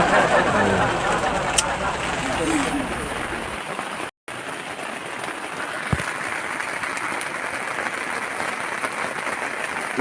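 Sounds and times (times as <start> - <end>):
heavy rain on tent fabric: 0.0 - 10.0.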